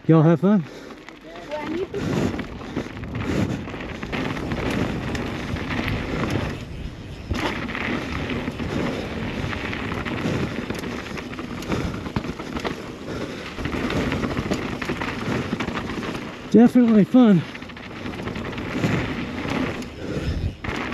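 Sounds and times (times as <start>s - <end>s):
bike knocking and rattling: 0.0s - 20.9s
bike tyres rolling on dirt: 0.0s - 20.9s
wind buffeting microphone: 0.0s - 20.9s.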